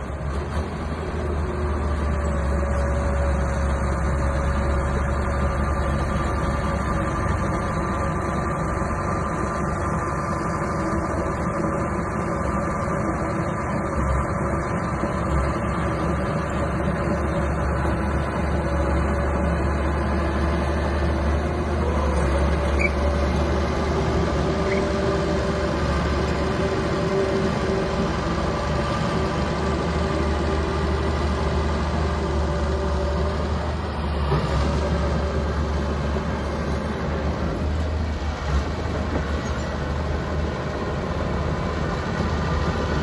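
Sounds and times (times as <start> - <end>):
bulldozer engine droning: 0.0 - 43.0.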